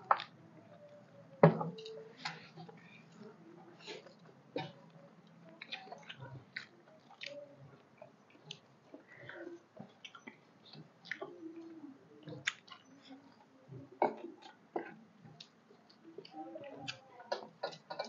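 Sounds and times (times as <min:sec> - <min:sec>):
close chewing with wet smacks: 0:01.8 - 0:09.2, 0:09.8 - 0:18.0.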